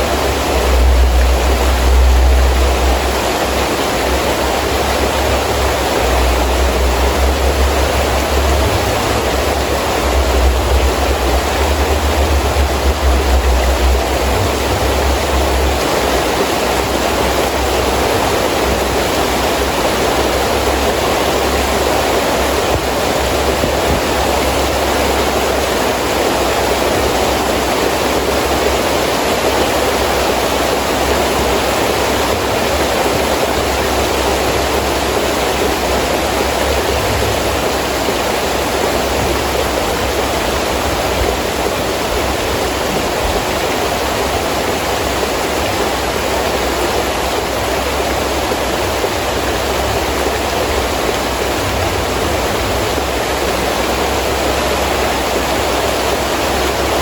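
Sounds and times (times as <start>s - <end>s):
heavy rain falling: 0.0s - 57.0s
low rumble of wind: 0.0s - 57.0s.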